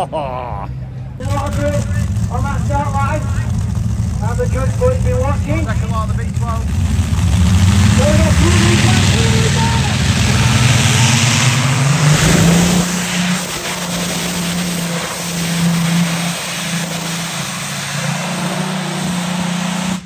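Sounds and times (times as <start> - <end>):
pulling tractor engine roaring: 0.0 - 20.0.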